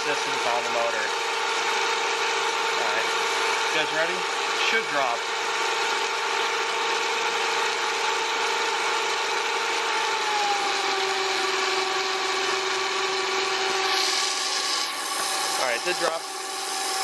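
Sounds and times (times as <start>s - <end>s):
turbine whine: 0.0s - 17.0s.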